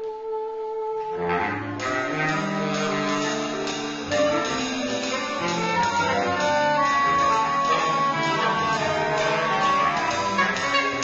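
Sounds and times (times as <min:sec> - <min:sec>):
bass: 0:00.0 - 0:11.0
saxophone ensemble: 0:00.0 - 0:11.0.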